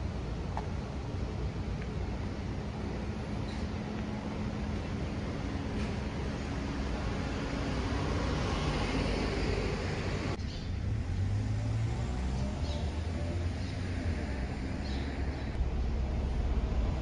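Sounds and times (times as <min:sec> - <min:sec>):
distant traffic rumble: 0:00.0 - 0:17.0
passing road traffic: 0:00.0 - 0:17.0.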